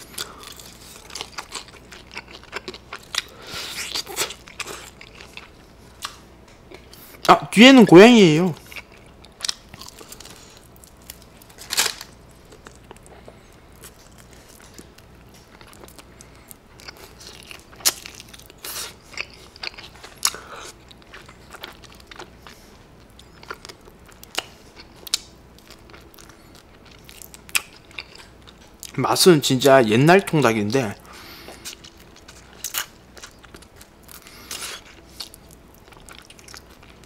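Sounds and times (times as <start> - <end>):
crisp chewing crunches: 0.0 - 7.1, 8.6 - 29.0, 31.0 - 37.0.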